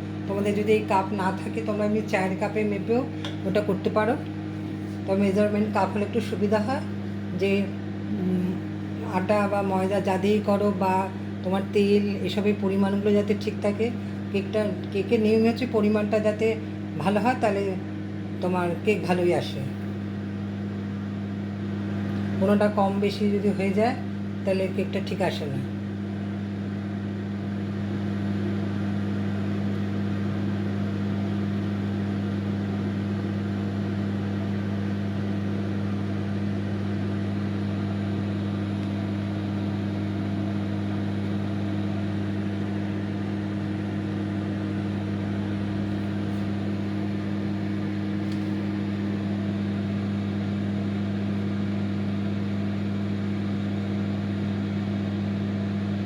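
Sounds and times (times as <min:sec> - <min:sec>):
microwave fan whirring: 0:00.0 - 0:56.0
microwave oven humming: 0:00.0 - 0:56.0.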